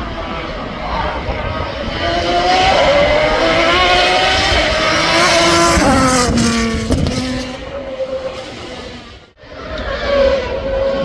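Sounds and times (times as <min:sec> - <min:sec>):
racing car engine revving: 0:01.4 - 0:11.0.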